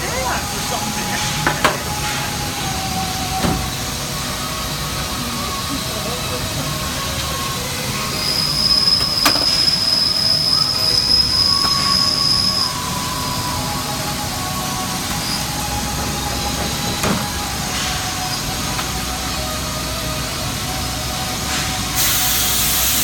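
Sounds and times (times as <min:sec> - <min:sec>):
high machine whine: 0:00.0 - 0:23.0
lathe machine noise: 0:00.0 - 0:23.0
low steady machine tones: 0:00.0 - 0:23.0.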